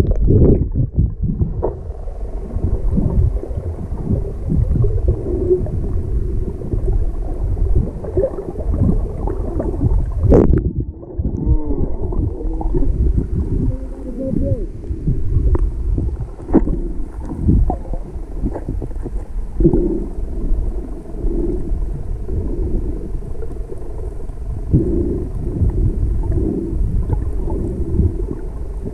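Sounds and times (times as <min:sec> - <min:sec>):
muffled underwater water rumble: 0:00.0 - 0:28.9
wavering gurgling tones: 0:00.0 - 0:28.9.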